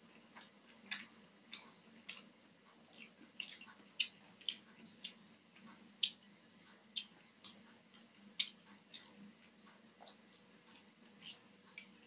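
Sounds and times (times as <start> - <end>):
open-mouthed chewing: 0.1 - 6.2, 6.8 - 12.0.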